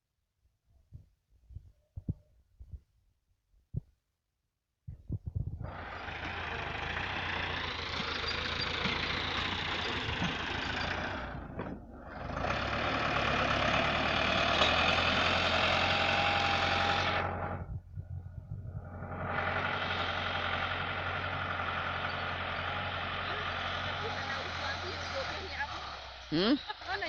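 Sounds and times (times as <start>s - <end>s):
tractor engine running: 5.2s - 27.0s.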